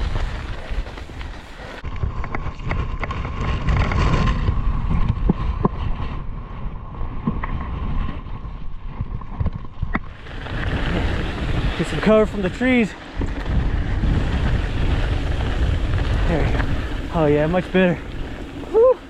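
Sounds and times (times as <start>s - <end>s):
bike clicks and rattles on rocks: 0.0s - 19.0s
wind buffeting microphone: 0.0s - 19.0s.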